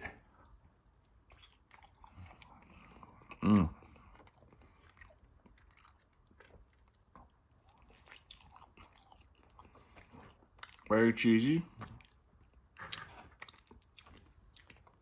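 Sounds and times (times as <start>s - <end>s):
man chewing food: 0.0s - 11.0s, 11.6s - 15.0s.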